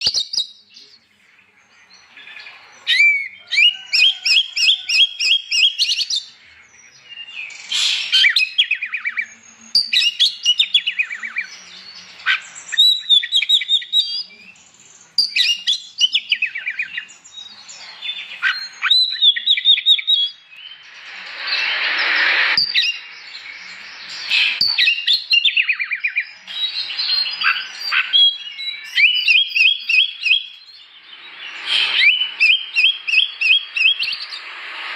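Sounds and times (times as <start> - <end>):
bird singing whistles and trills: 0.0 - 21.0, 22.6 - 34.9.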